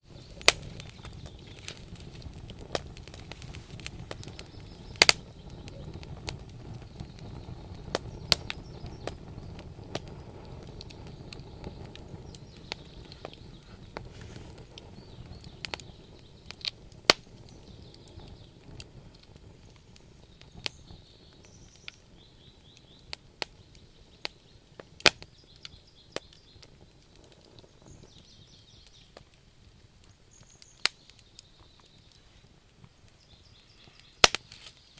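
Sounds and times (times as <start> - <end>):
fire crackling and popping: 0.0 - 34.9
low rumble of flame: 0.0 - 34.9.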